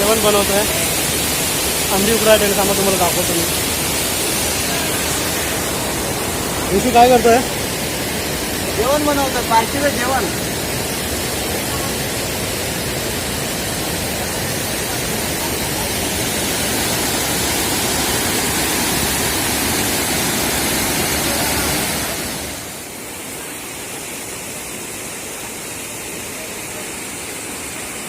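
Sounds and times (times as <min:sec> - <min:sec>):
water rushing over a dam: 0:00.0 - 0:28.0.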